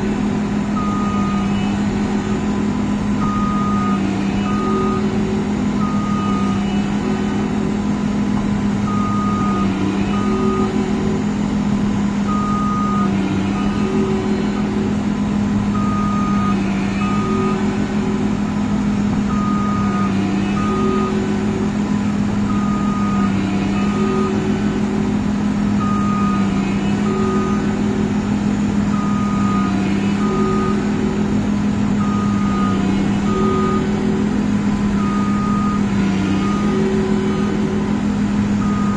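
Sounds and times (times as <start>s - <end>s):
combine harvester running: 0.0s - 38.9s
electronic warning beeps: 0.7s - 7.8s, 8.8s - 11.4s, 12.2s - 15.0s, 15.7s - 18.4s, 19.2s - 38.9s.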